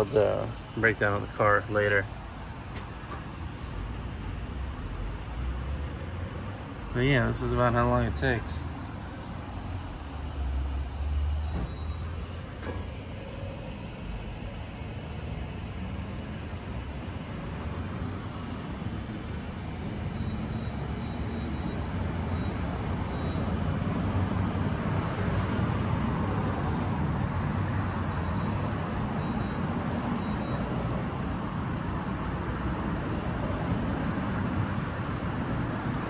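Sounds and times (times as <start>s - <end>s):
fuel dispenser rumble and hiss: 0.0s - 36.0s.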